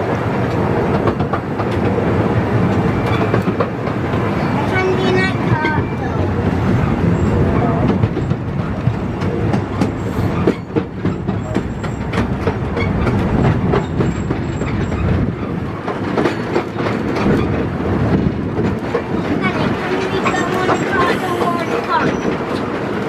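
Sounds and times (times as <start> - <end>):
miniature train rumbling on track: 0.0 - 23.0
wheels clattering over rail joints: 2.6 - 23.0.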